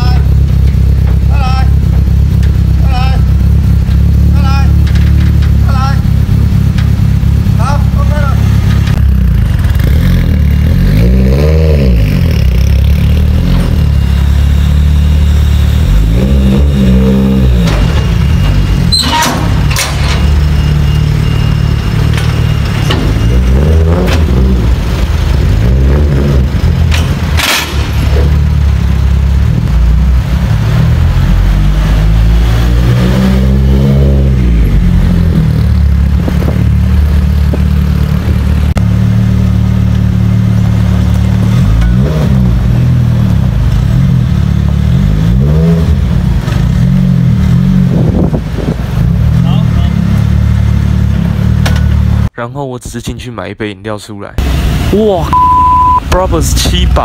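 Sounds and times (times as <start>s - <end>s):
car engine revving: 0.0s - 52.3s.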